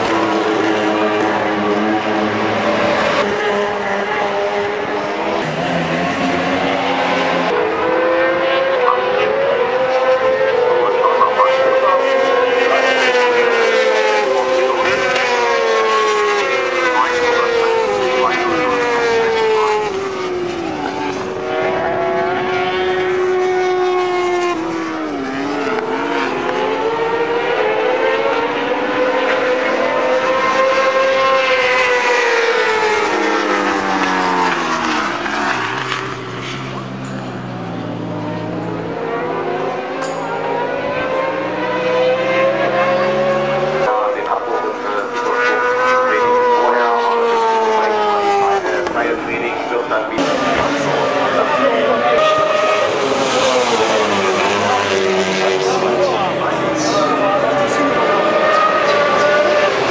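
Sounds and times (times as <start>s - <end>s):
motorcycle engines at high revs: 0.0s - 59.9s.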